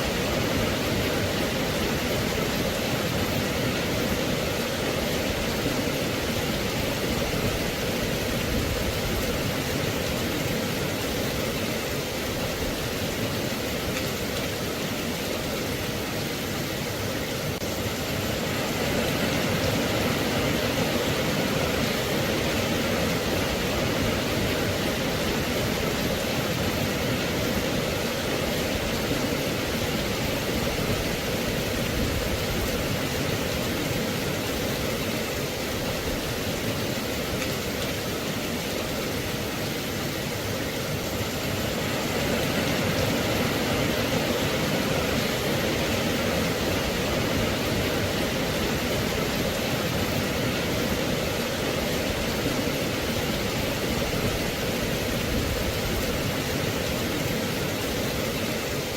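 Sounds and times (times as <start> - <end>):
rain falling steadily: 0.0 - 58.9.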